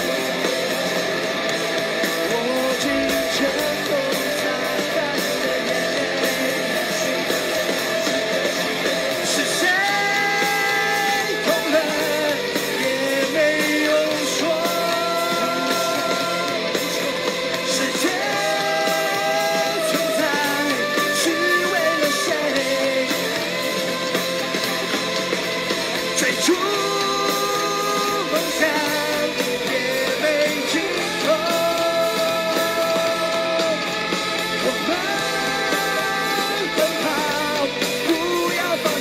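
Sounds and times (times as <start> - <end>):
drums: 0.0 - 39.0
electric guitars: 0.0 - 39.0
man singing: 2.0 - 25.2, 25.8 - 39.0.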